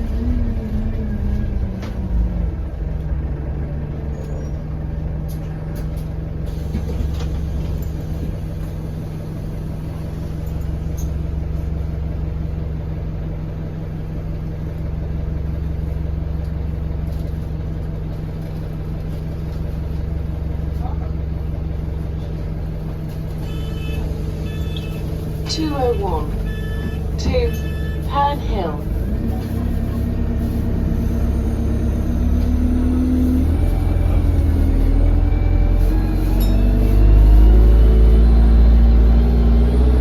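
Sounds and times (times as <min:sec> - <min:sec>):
bus diesel engine humming: 0:00.0 - 0:40.0.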